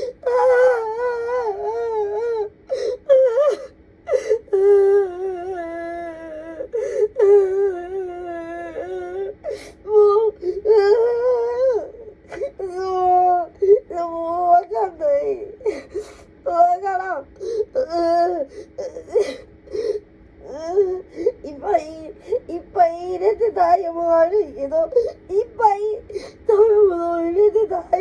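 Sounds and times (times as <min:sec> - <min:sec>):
woman sobbing and wailing: 0:00.0 - 0:28.0.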